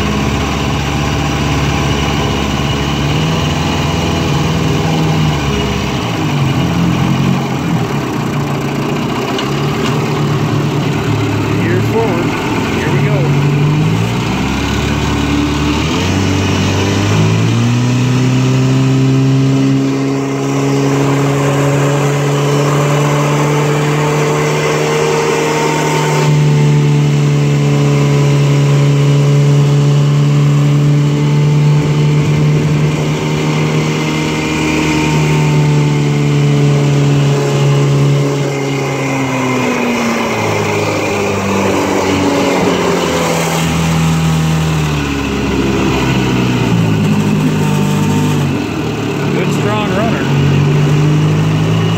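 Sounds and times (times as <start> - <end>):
outboard motor running: 0.0 - 51.9.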